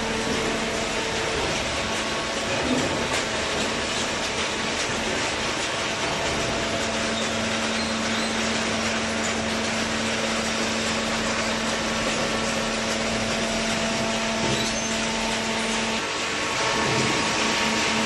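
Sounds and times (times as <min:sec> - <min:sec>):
hydraulic pump motor humming: 0:00.0 - 0:18.0.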